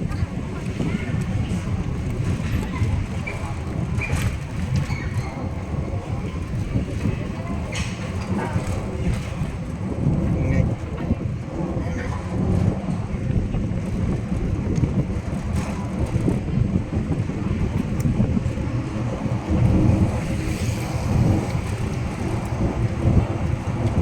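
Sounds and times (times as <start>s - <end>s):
train running rumble: 0.0s - 24.0s
wind buffeting microphone: 0.0s - 24.0s.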